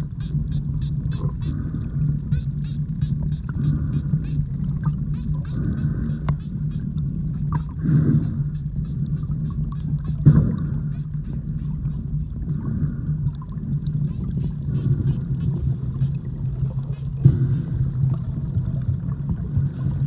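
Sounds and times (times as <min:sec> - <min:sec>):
high dolphin chirps: 0:00.0 - 0:12.4, 0:14.0 - 0:18.6
dolphins clicking: 0:00.0 - 0:20.0
steady low hum: 0:00.0 - 0:20.0.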